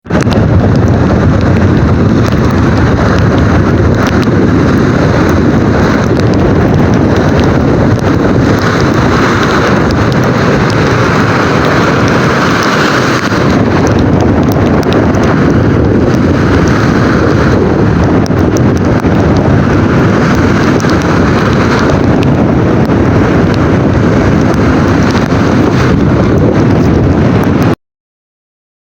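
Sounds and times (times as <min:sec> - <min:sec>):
heavy rain: 0:00.0 - 0:27.8
wind buffeting microphone: 0:00.0 - 0:27.8.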